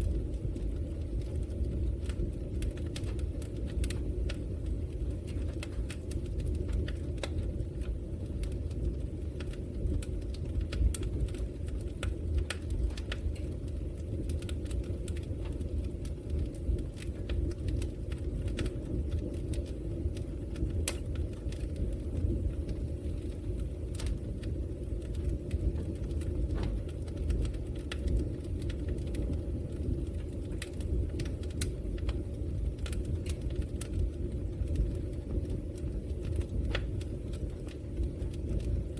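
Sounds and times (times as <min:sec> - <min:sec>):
logs crackling and popping: 0:00.0 - 0:38.9
low rushing of flames: 0:00.0 - 0:38.9.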